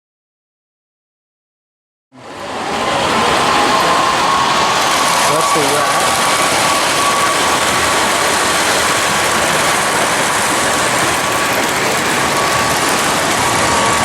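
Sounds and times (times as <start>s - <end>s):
high steady whine: 2.2s - 14.0s
model trains rolling: 2.2s - 14.0s.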